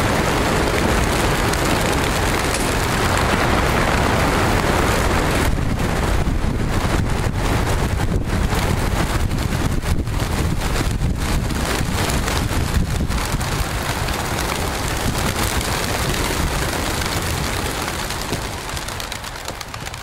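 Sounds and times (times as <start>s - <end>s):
pigeons flapping wings: 0.0s - 20.0s.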